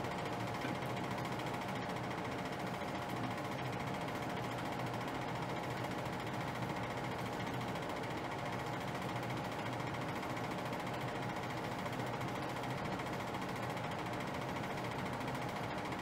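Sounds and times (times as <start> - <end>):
steady mechanical whir: 0.0 - 16.0.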